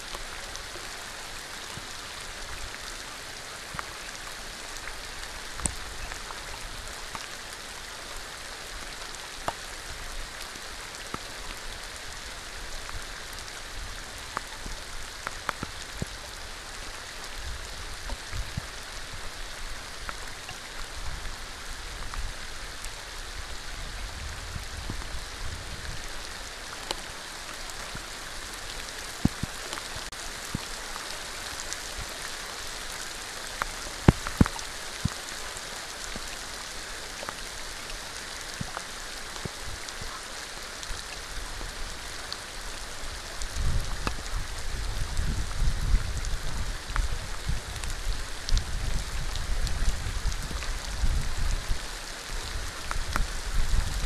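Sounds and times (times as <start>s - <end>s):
raindrops ticking close by: 0.0s - 54.0s
steady rain falling: 0.0s - 54.0s.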